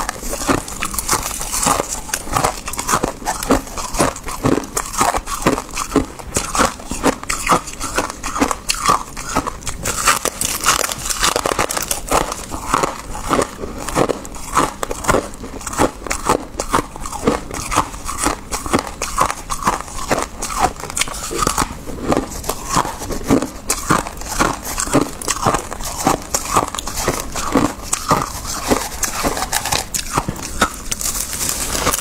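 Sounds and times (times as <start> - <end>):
frost being chewed: 0.0 - 32.0.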